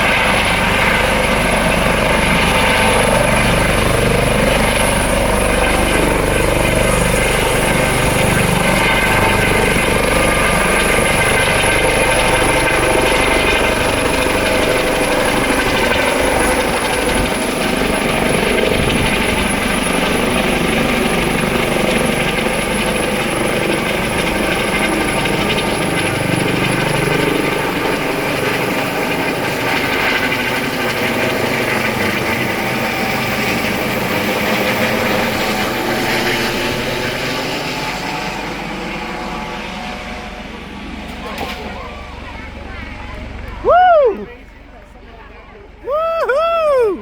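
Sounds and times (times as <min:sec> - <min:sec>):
helicopter turbine and rotors: 0:00.0 - 0:47.0.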